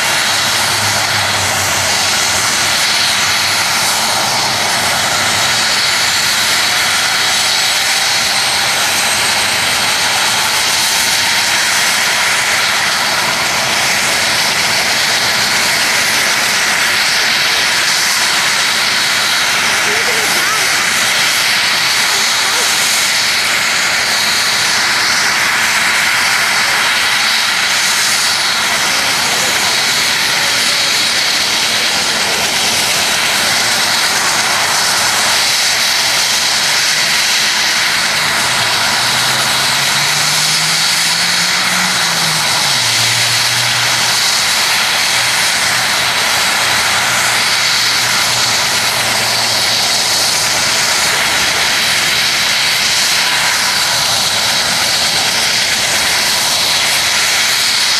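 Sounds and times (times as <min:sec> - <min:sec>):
helicopter turbine whine: 0:00.0 - 0:57.9.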